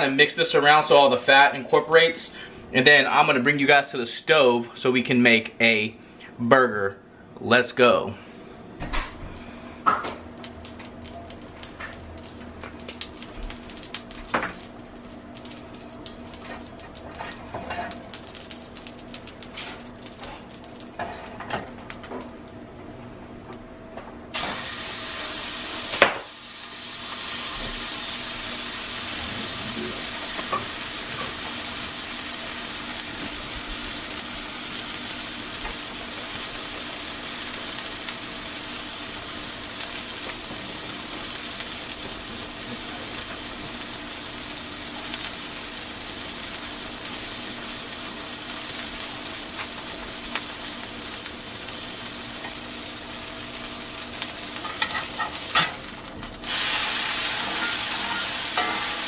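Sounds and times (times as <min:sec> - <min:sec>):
meat patty sizzling in skillet: 0:09.9 - 0:22.6, 0:24.4 - 0:59.0.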